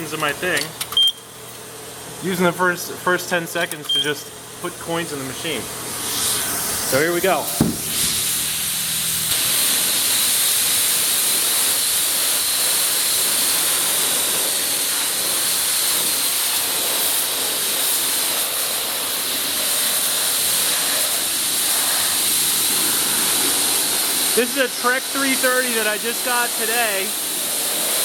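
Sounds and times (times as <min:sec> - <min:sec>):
pressure washer water jet: 0:04.9 - 0:28.0.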